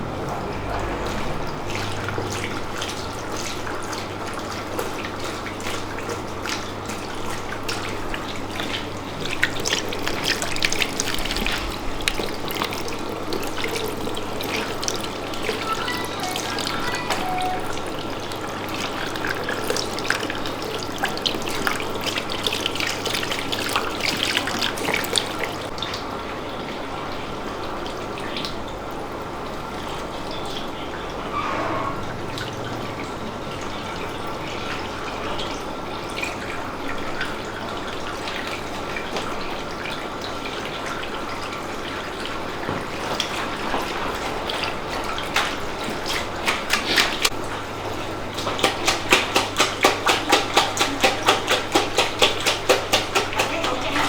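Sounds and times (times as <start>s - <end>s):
tap water splashing into basin: 0.0s - 26.0s, 35.2s - 54.0s.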